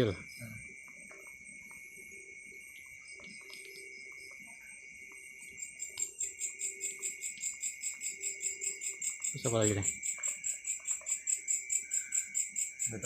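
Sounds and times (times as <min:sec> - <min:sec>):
crickets trilling: 0:00.0 - 0:13.0
pulsing insect chirping: 0:00.0 - 0:13.0.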